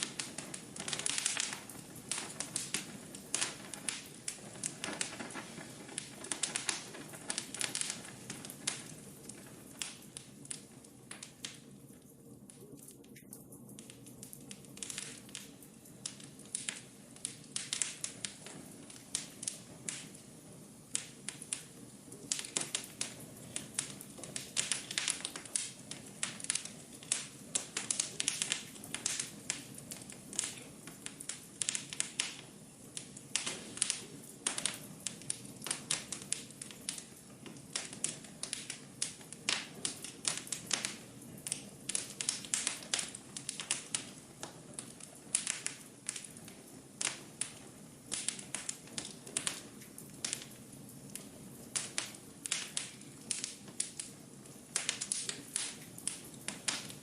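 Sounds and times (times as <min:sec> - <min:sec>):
fire crackling and popping: 0:00.0 - 0:57.0
hiss of flames: 0:00.0 - 0:57.0.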